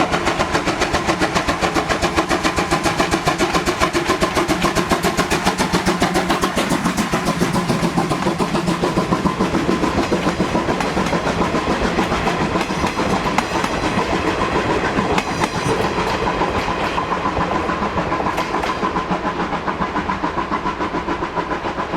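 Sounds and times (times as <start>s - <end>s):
wheels clattering over rails: 0.0s - 19.3s
steam train running past: 0.0s - 21.9s.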